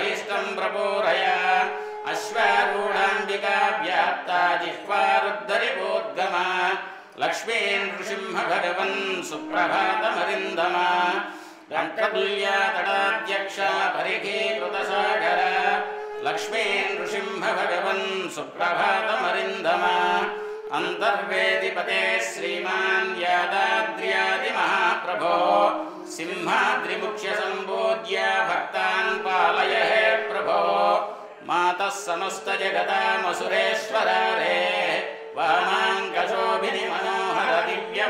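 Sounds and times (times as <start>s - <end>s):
hymn sung in chanting style: 0.0s - 38.0s.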